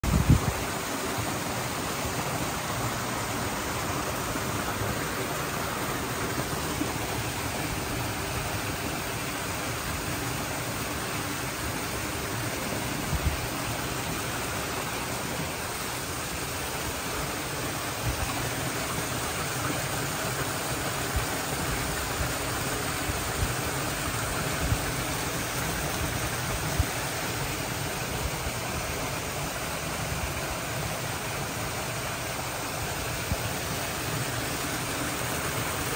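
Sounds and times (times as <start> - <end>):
fountain water cascading over rocks: 0.0 - 35.9.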